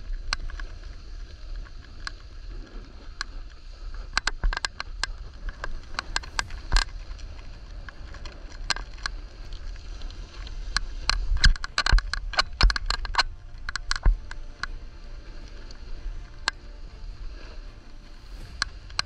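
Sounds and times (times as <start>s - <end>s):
low steady rumble: 0.0s - 19.0s.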